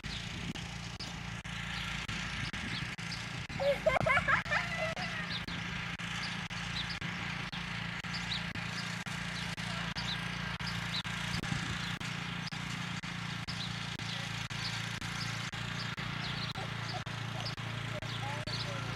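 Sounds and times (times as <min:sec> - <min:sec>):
riding lawnmower engine humming: 0:00.0 - 0:18.9.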